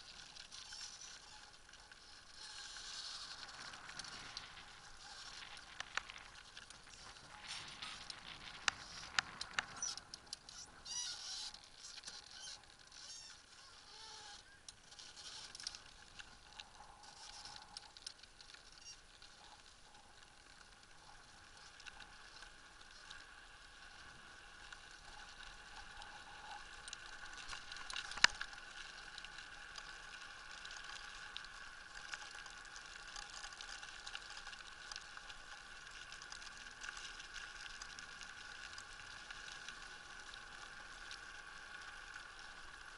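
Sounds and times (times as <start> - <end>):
wheels and rig rattling: 0.0 - 42.9.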